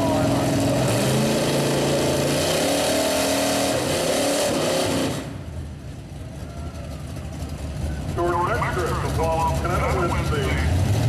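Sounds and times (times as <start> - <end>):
tires spinning: 0.0 - 11.0
truck engines revving hard: 0.0 - 11.0.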